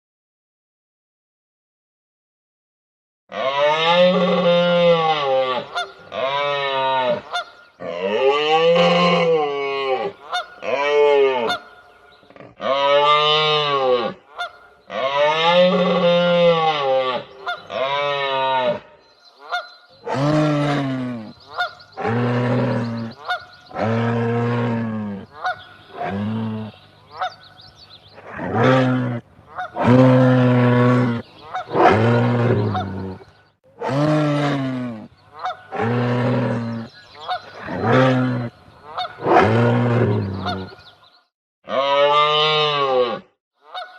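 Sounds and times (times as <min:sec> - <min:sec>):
drawn-out honking calls: 0:03.8 - 0:18.8, 0:19.4 - 0:27.8, 0:28.6 - 0:33.2, 0:33.8 - 0:40.9.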